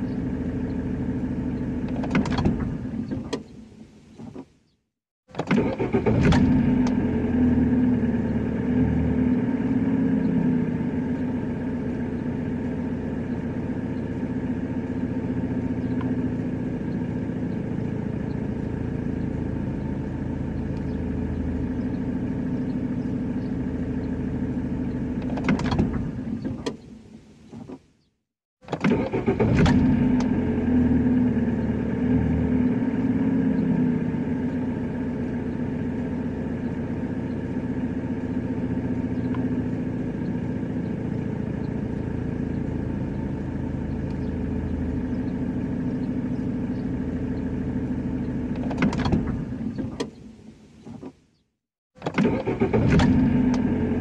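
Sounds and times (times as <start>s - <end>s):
car engine starting and running: 0.0s - 4.6s, 5.3s - 28.0s, 28.6s - 51.4s, 52.0s - 54.0s.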